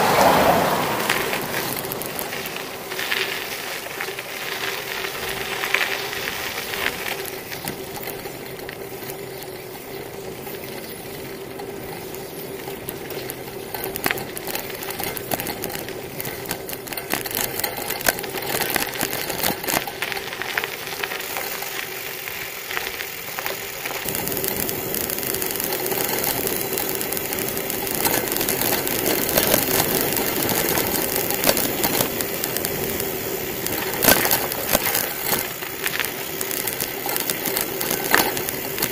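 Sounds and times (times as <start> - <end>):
bicycle tyres on rough asphalt: 0.0 - 38.9
rattling clicks from bike: 0.0 - 38.9.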